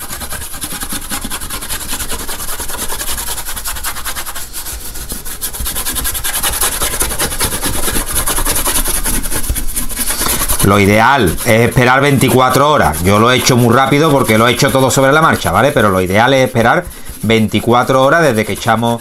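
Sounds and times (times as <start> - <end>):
small brush scrubbing: 0.0 - 19.0.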